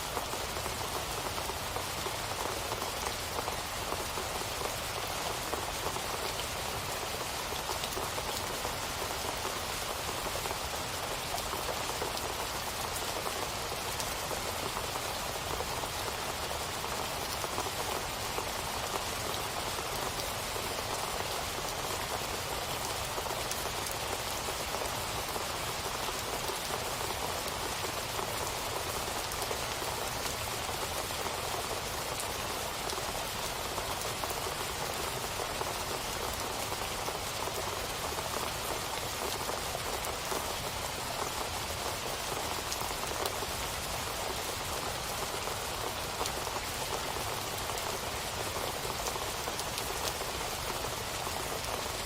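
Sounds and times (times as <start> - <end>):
rain pattering on a surface: 0.0 - 52.0.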